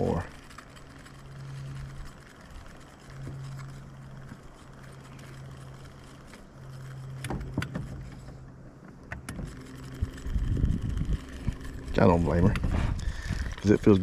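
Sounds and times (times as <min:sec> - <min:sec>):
electric trolling motor humming: 0:00.0 - 0:14.0.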